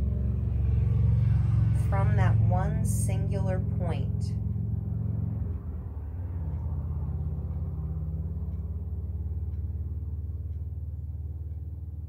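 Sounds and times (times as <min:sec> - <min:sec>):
low pulsing rumbling hum: 0:00.0 - 0:12.0.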